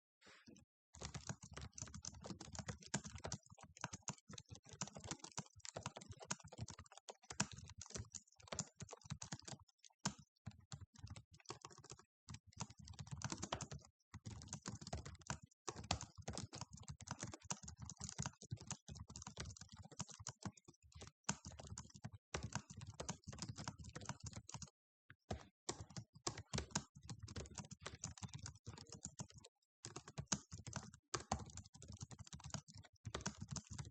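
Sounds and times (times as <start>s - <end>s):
fast typing on keyboard: 1.0s - 33.9s.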